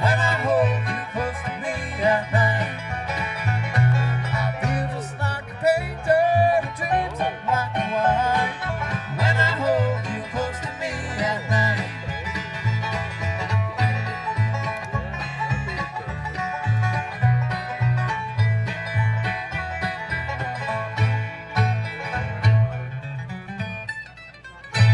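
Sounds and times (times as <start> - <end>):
banjo rolls: 0.0 - 24.9
strummed guitar: 0.0 - 24.9
upright bass notes: 0.0 - 24.9.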